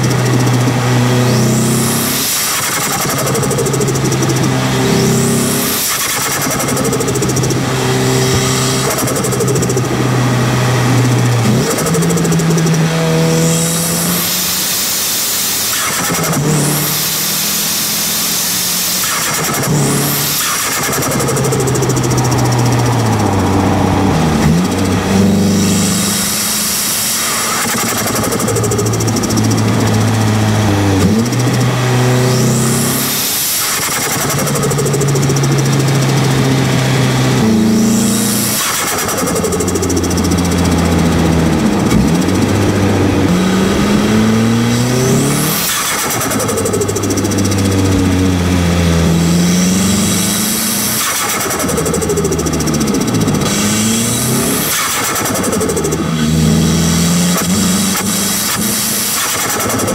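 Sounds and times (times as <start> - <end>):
car engine accelerating: 0.0 - 59.9
turbo flutter: 0.0 - 59.9.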